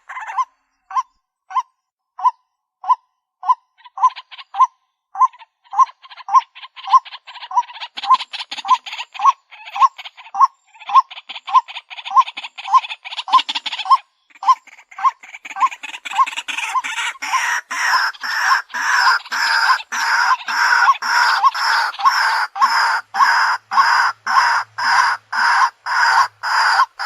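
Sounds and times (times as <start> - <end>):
waterhen calling: 0.0 - 1.6, 2.2 - 27.0.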